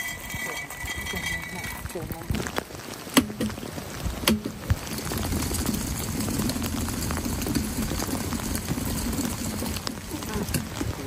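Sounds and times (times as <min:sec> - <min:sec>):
wheel dollies rolling on wet concrete: 0:00.0 - 0:11.0.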